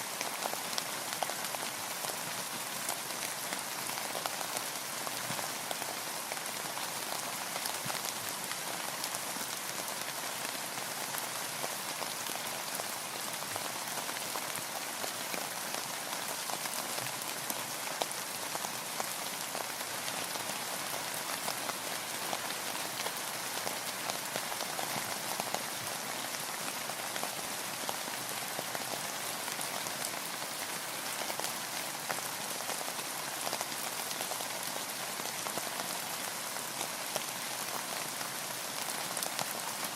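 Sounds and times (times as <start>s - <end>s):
rain ticking on a boat: 0.0s - 39.9s.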